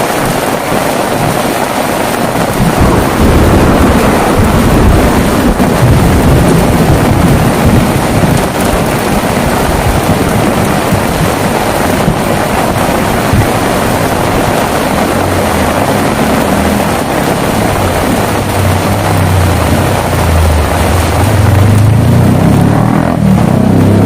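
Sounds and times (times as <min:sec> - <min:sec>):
heavy rain falling: 0:00.0 - 0:24.0
low rumble: 0:02.3 - 0:24.0.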